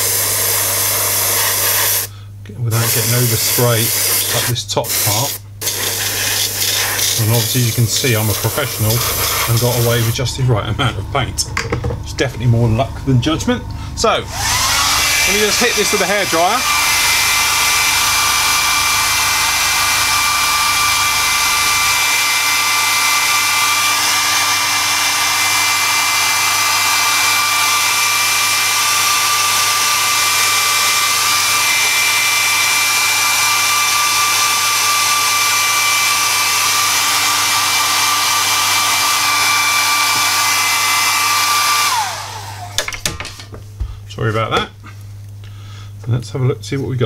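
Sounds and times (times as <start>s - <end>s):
hair dryer running: 0.0s - 2.1s, 2.8s - 44.0s.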